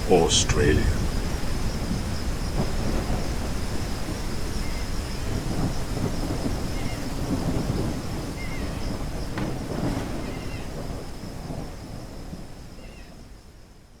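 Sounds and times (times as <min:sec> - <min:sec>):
rumbling thunder: 0:00.0 - 0:12.0
rain: 0:00.0 - 0:14.0.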